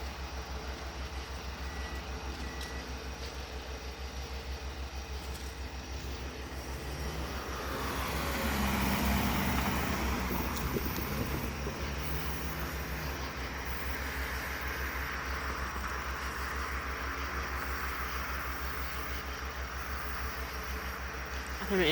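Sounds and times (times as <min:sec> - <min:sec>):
vehicle engine rumbling: 0:00.0 - 0:21.9.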